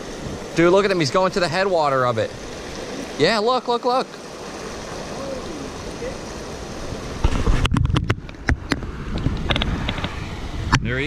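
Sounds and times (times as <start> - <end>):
water rushing over a weir: 0.0 - 11.0.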